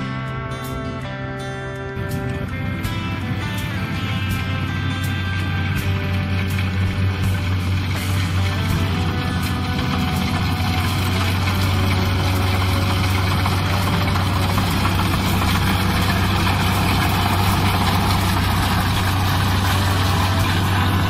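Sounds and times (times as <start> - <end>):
diesel engine humming: 0.0 - 21.0
threshing machinery noise: 2.0 - 21.0.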